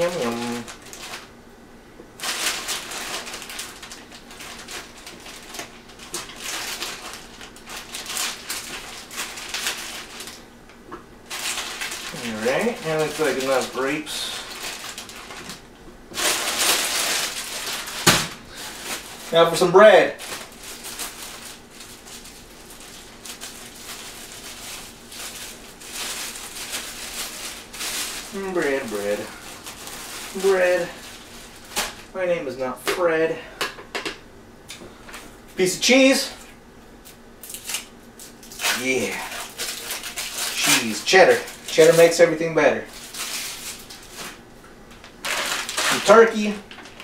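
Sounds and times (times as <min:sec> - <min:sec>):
grapes rustling and clicking: 0:02.1 - 0:32.2, 0:37.0 - 0:47.0.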